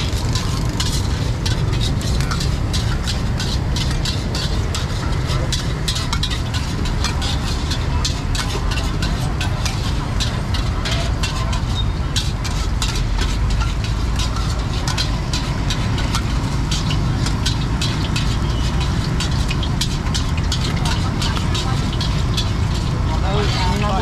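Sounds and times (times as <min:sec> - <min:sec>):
low rumble of gas burners: 0:00.0 - 0:24.0
metal spatulas scraping woks: 0:00.0 - 0:24.0.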